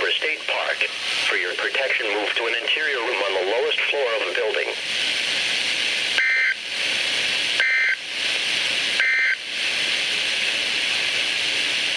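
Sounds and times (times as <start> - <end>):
radio hiss: 0.0 - 11.9.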